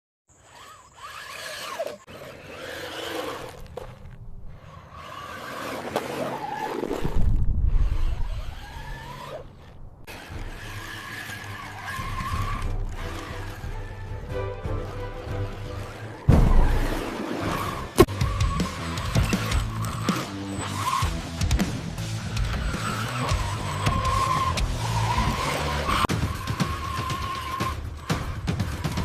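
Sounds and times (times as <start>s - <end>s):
toy truck electric motor whine: 0.3s - 21.3s, 22.1s - 29.0s
tyre skids: 0.3s - 29.0s.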